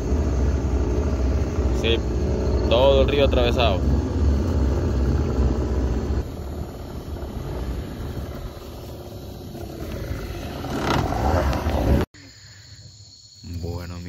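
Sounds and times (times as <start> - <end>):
outboard motor rumbling: 0.0 - 12.1.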